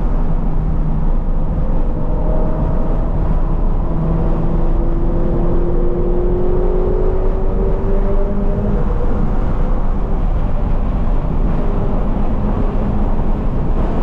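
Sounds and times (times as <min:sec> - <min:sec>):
car engine accelerating: 0:00.0 - 0:14.0
low rumble: 0:00.0 - 0:14.0.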